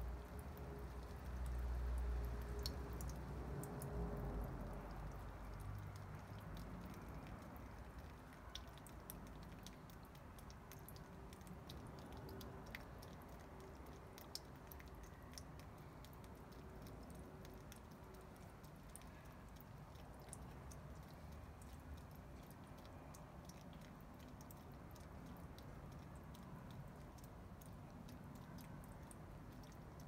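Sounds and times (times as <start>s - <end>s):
water dripping onto wood: 0.0s - 30.0s.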